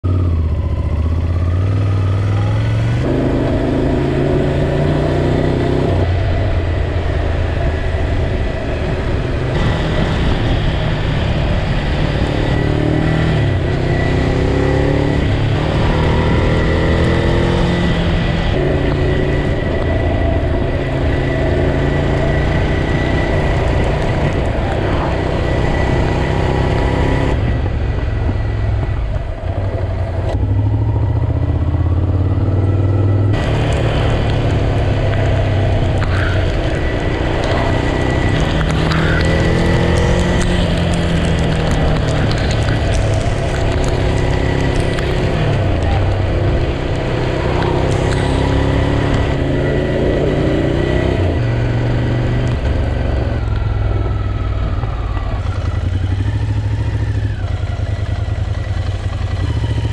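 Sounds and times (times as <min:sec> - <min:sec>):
motorcycle engine shifting gears: 0:00.0 - 0:59.9
road and wind noise: 0:00.0 - 0:59.9.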